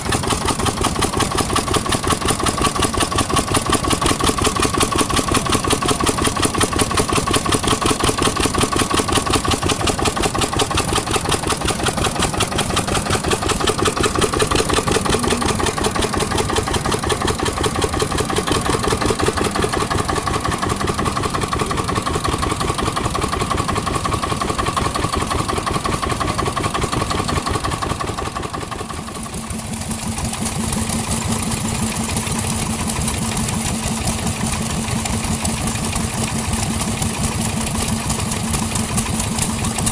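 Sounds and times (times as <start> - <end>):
engine with steady hum: 0.0 - 39.9
vintage engines running: 0.0 - 39.9.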